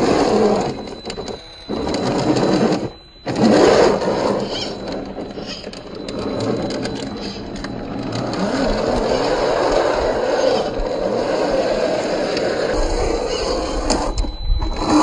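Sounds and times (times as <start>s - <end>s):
toy motor whirring through gearbox: 0.0s - 15.0s.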